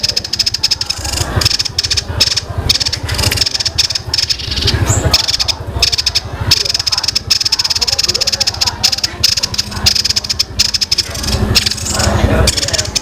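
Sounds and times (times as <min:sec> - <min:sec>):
bird high-pitched rapid trill: 0:00.0 - 0:13.0.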